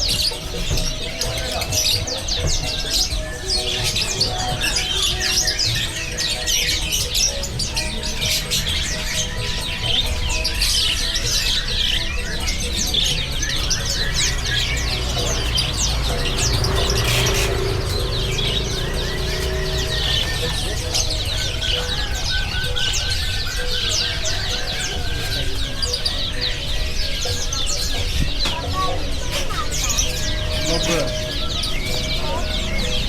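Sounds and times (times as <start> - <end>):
songbirds chirping and twittering: 0.0 - 33.0.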